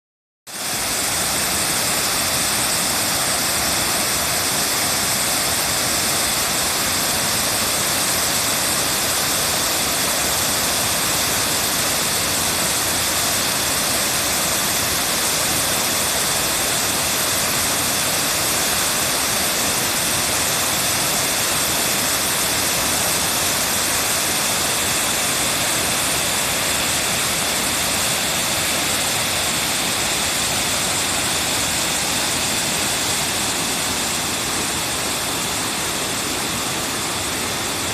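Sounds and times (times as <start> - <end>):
waterfall rushing: 0.5 - 37.9.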